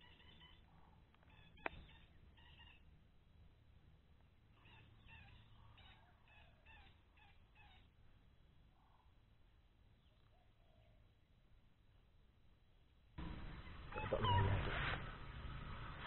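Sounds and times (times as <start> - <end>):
birds chirping: 0.0 - 11.2, 12.7 - 16.0.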